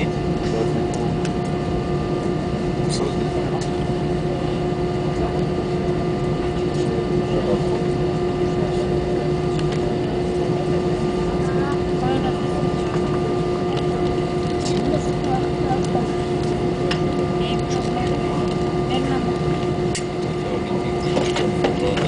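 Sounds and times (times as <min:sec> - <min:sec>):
aircraft cabin rumble and hum: 0:00.0 - 0:22.0.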